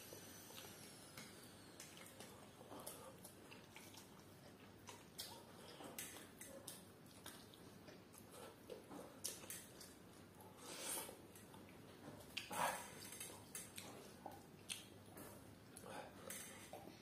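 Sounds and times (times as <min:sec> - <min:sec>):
chewing and lip smacks: 0:00.2 - 0:17.0.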